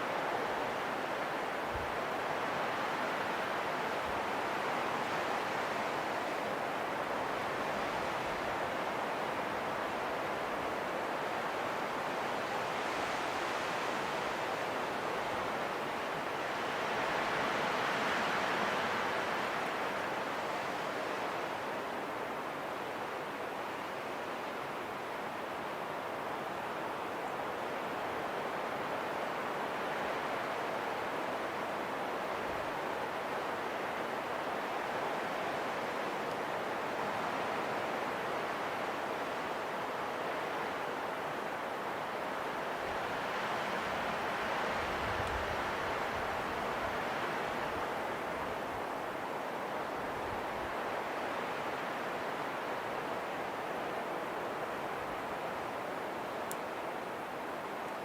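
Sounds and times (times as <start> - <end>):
steady wind blowing: 0.0 - 58.0.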